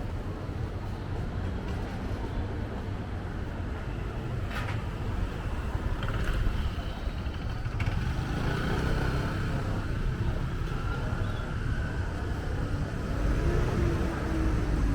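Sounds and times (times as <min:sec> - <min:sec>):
vehicle engines rumbling: 0:00.0 - 0:14.9.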